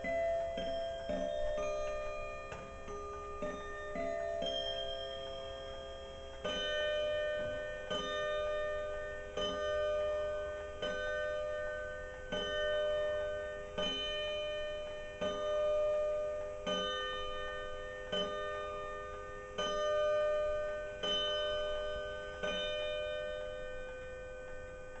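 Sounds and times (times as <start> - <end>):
wall clock striking: 0.0 - 25.0.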